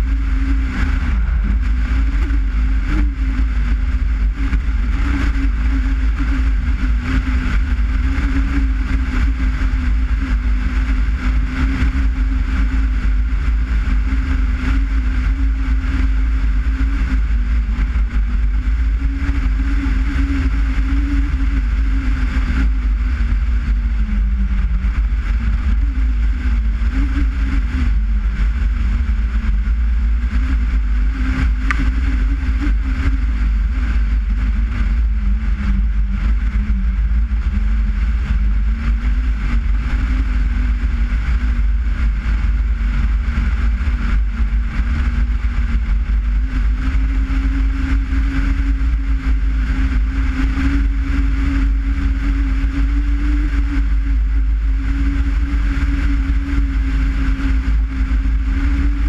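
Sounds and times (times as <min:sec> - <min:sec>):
car engine running: 0:00.0 - 0:59.0
heavy low rumble: 0:00.0 - 0:59.0
road and wind hiss: 0:00.0 - 0:59.0.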